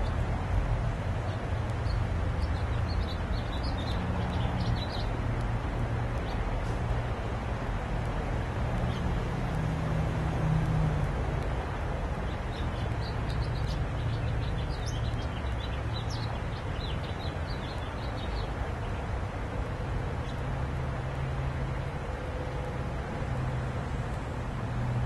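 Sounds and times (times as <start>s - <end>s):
background traffic rumble: 0.0s - 25.0s.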